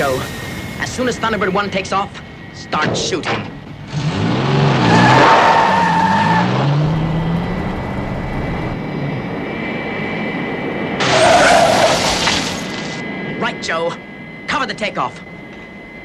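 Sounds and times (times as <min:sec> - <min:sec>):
low wavering engine tone: 0:00.0 - 0:12.1, 0:12.8 - 0:16.0
steady high whine: 0:00.0 - 0:16.0.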